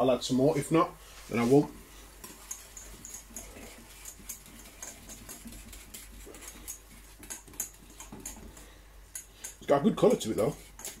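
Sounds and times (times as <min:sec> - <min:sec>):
wire whisk scraping metal saucepan: 0:02.2 - 0:11.0.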